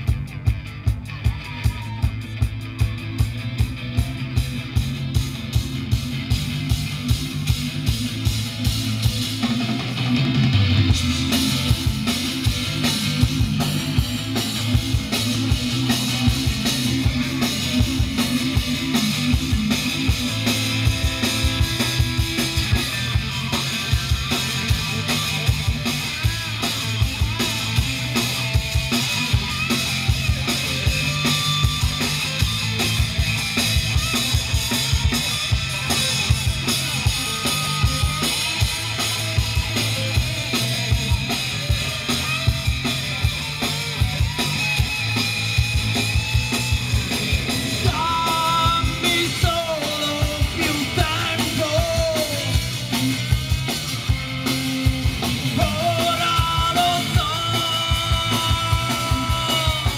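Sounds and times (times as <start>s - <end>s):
bass guitar: 0.0s - 59.9s
drum kit beat: 0.0s - 59.9s
electric guitars: 0.0s - 59.9s.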